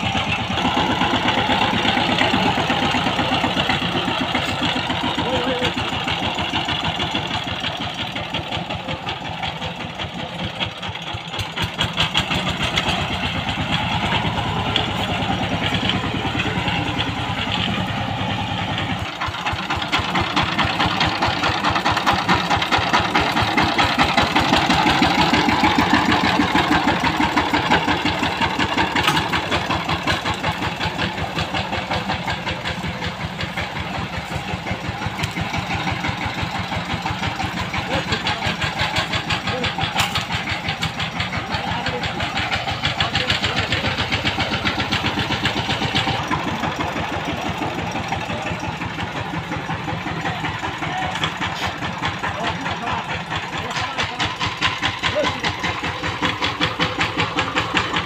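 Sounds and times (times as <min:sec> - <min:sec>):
power tiller diesel engine: 0:00.0 - 0:58.0.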